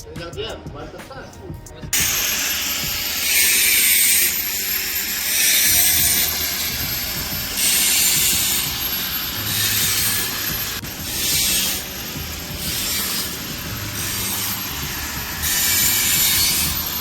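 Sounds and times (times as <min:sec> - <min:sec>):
tool scraping rough surface: 0:02.0 - 0:17.0.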